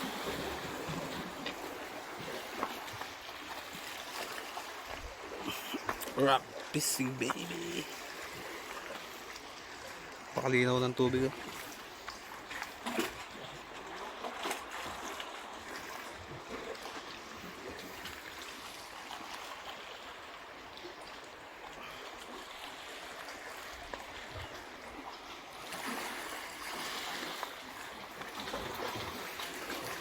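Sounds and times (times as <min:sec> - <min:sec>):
water washing around rocks: 0:00.0 - 0:20.1, 0:21.8 - 0:30.0.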